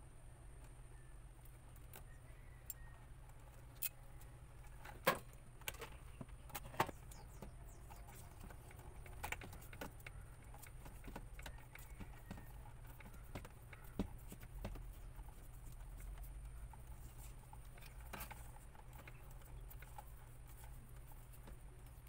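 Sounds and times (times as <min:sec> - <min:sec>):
electrical tape being handled: 0:03.3 - 0:22.0.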